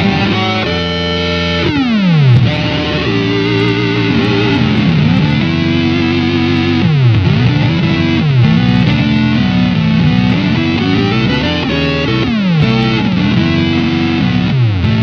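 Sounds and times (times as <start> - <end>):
buzzy synth guitar tone: 0.0 - 15.0.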